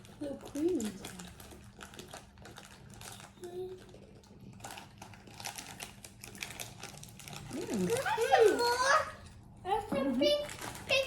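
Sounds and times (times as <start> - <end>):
plastic wrapper crackling: 0.0 - 9.2, 10.1 - 11.0.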